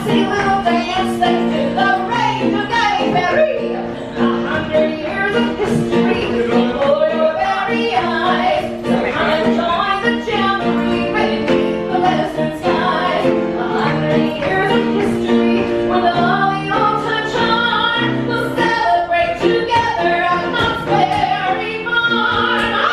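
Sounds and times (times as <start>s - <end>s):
music with singing: 0.0s - 22.9s.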